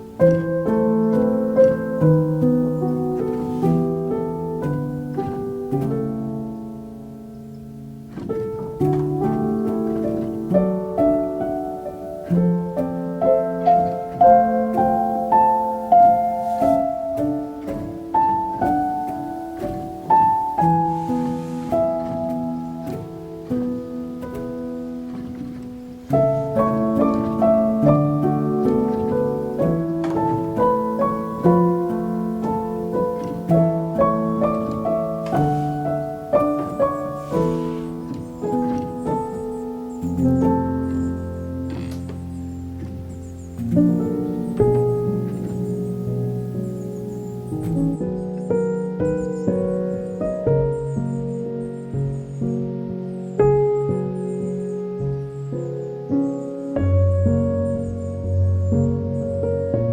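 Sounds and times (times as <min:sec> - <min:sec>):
soft solo piano music: 0:00.0 - 0:59.9.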